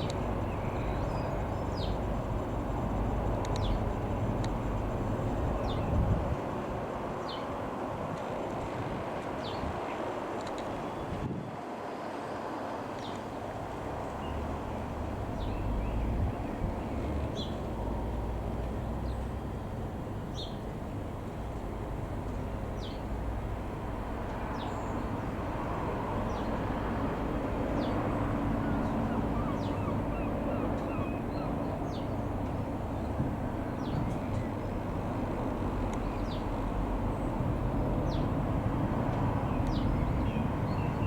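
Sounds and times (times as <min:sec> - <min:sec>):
wind rumbling on microphone: 0:00.0 - 0:11.7, 0:13.0 - 0:41.0
distant light aircraft engine drone: 0:00.0 - 0:41.0.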